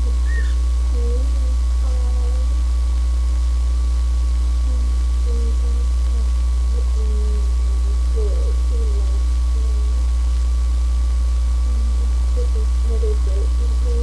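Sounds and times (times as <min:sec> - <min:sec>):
faint wavering sounds: 0:00.0 - 0:14.0
loud low hum: 0:00.0 - 0:14.0
thin steady whine: 0:00.0 - 0:14.0.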